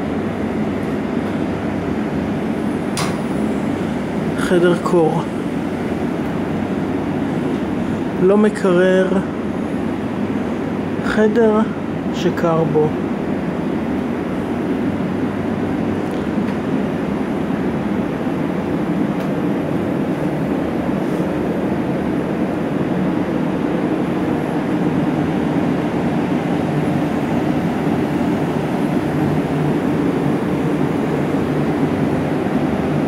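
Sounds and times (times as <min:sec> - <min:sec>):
refrigeration unit whirring: 0:00.0 - 0:33.0.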